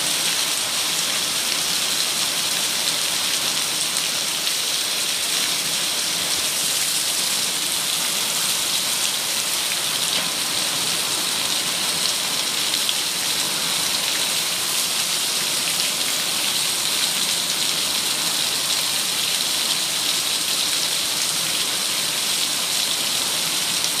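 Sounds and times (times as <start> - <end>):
heavy rain and hail on ground: 0.0 - 24.0.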